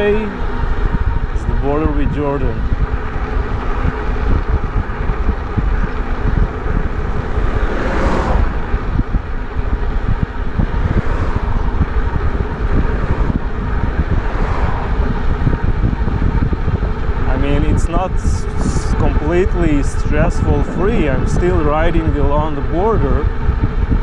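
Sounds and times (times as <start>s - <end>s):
car passing: 0.0s - 21.6s
wind buffeting microphone: 0.0s - 24.0s.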